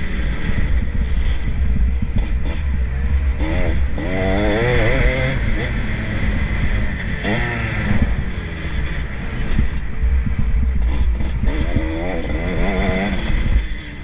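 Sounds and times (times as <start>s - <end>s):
dense low rumble: 0.0s - 14.0s
motocross bike engines revving: 0.0s - 14.0s.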